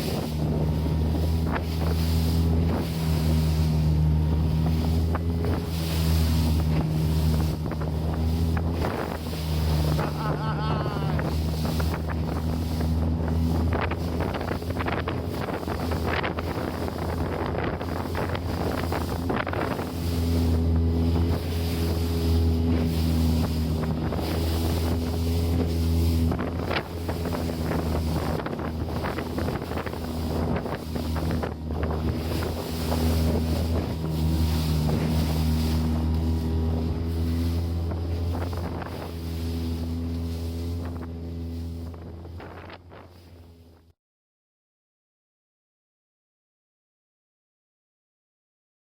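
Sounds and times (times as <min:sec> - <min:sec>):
wind buffeting microphone: 0:00.0 - 0:43.5
outboard motor running: 0:00.0 - 0:43.9
water rushing past hull: 0:00.0 - 0:43.9.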